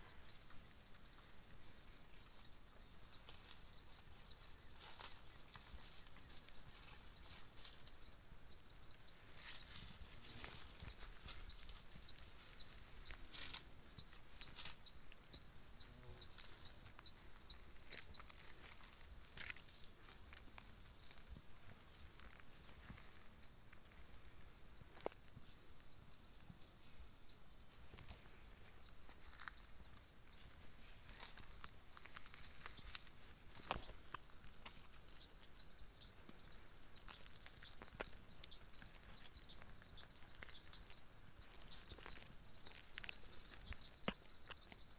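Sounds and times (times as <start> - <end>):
high-pitched insect chorus: 0.0 - 44.9
faint clicks and rustles in grass: 0.1 - 15.5, 16.2 - 25.7, 27.6 - 44.9.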